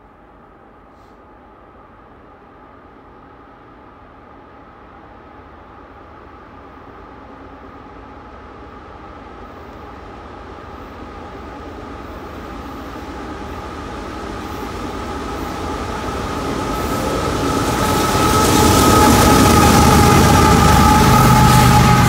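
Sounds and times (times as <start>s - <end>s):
freight train passing: 0.0s - 22.0s
steady high whine: 0.0s - 22.0s.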